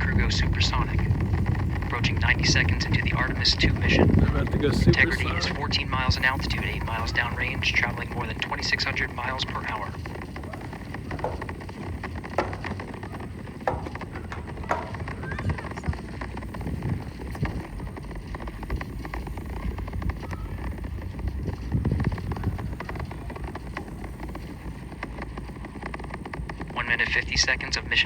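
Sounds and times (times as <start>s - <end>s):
distant rocket engines rumbling: 0.0s - 28.0s.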